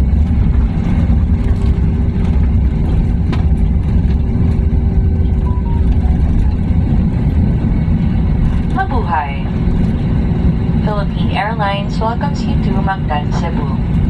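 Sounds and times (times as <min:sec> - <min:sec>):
airliner engines and wheels rumbling: 0:00.0 - 0:14.0.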